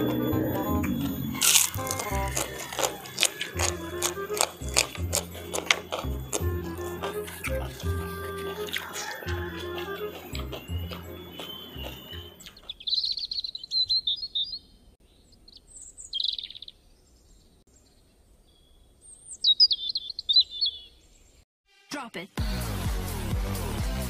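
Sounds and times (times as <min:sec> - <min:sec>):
songbird chirping and trilling: 0:00.0 - 0:21.4.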